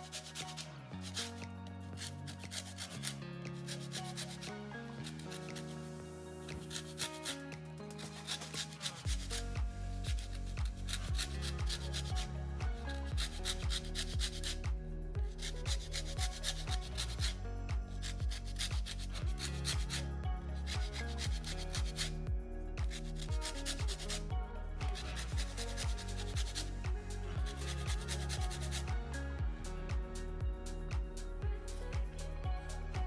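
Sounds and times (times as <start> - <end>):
scratchy rubbing texture: 0.0 - 12.3, 13.0 - 14.7, 15.3 - 22.2, 22.8 - 29.0
music with deep bass and beat: 3.6 - 33.0.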